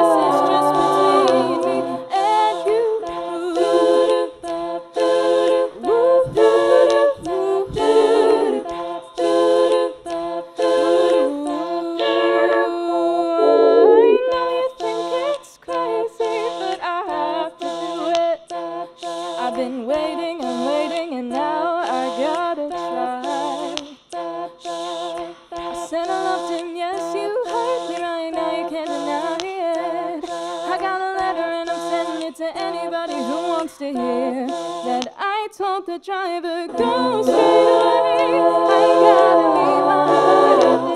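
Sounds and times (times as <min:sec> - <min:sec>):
woman singing vocal harmonies: 0:00.0 - 0:40.9.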